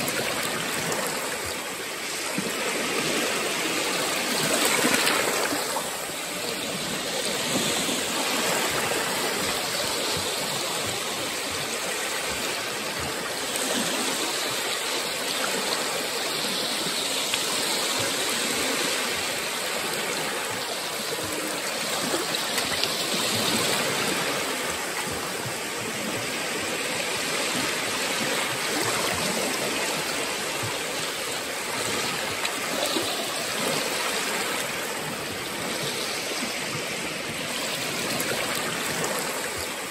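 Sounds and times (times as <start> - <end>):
small waves lapping on sand: 0.0 - 39.9.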